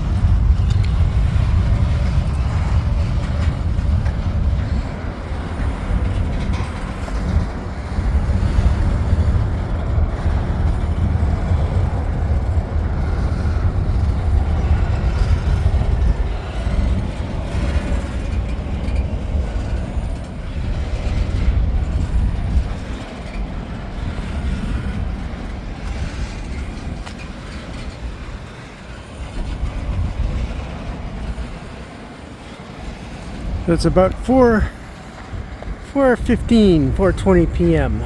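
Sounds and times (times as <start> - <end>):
freight train rumbling past: 0.0 - 38.0.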